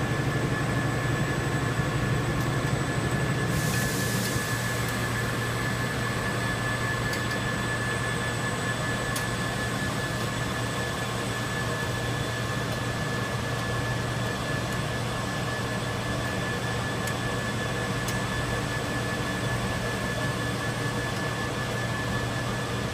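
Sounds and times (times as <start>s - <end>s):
constant high whine: 0.0s - 22.9s
whir of motors and fans: 0.0s - 22.9s.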